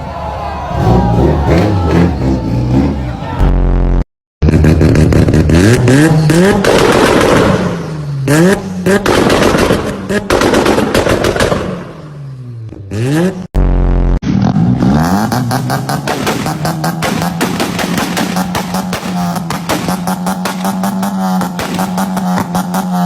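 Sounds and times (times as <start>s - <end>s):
car engine revving: 0.7s - 10.4s, 12.3s - 23.0s
exhaust popping and crackling: 3.6s - 12.1s, 12.7s - 23.0s.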